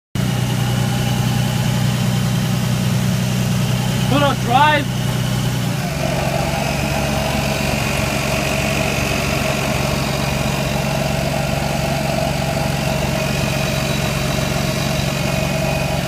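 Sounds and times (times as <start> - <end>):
car engine idling: 0.2 - 16.0.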